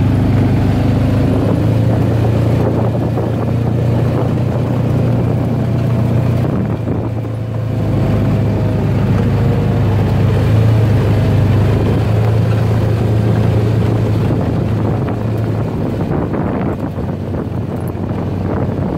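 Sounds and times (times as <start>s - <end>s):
rough road noise: 0.0s - 18.9s
utility vehicle engine droning: 0.0s - 18.9s.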